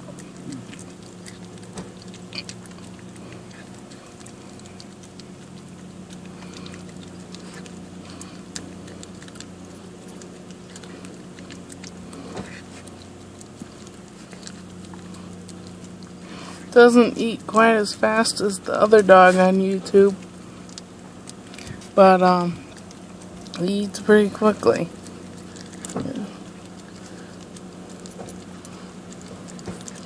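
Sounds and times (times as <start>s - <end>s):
dog licking ice cream: 0.0s - 30.0s
steady low hum: 0.0s - 30.0s.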